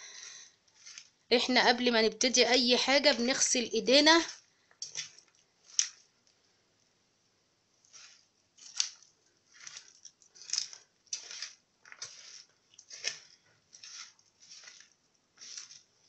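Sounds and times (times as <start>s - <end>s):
hands rustling vegetables in tray: 0.7s - 6.1s, 7.8s - 16.0s.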